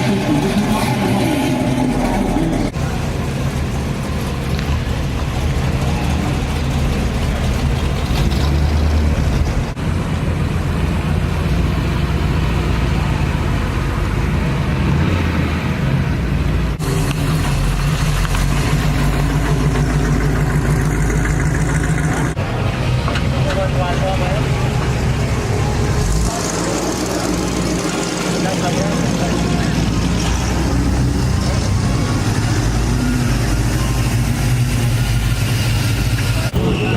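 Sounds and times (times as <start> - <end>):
car engines rumbling: 0.0 - 36.9.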